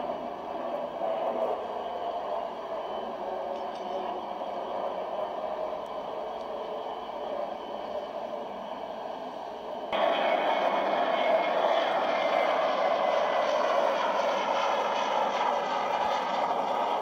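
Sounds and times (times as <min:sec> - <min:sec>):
turboprop airliner droning overhead: 0:00.0 - 0:17.0.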